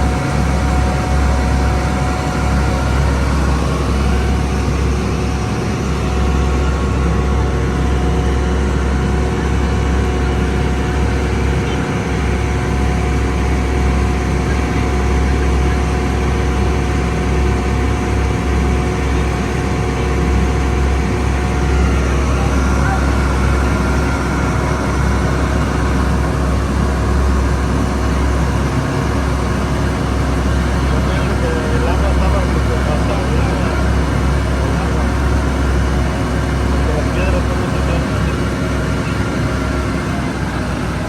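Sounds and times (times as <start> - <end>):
boat engine low rumble: 0.0 - 41.0.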